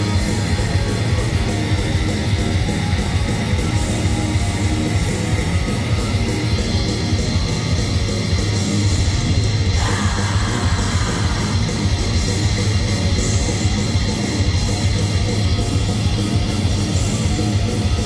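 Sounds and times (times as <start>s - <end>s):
distorted electric guitar: 0.0s - 18.0s
heavy metal band playing live: 0.0s - 18.0s.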